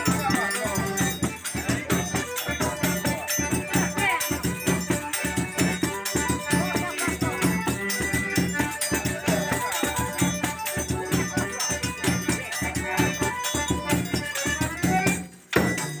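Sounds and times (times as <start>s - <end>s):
sustained melodic notes: 0.0s - 15.4s
bass drum beating a rhythm: 0.0s - 16.0s
rattling percussion: 0.0s - 16.0s.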